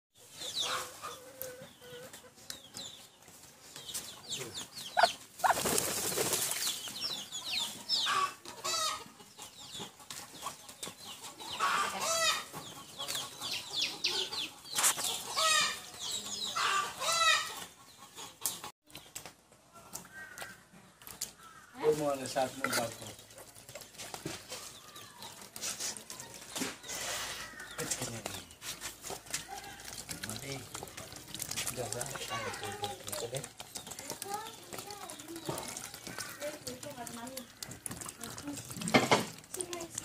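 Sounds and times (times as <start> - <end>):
poultry clucking and chirping: 0.2 - 39.8.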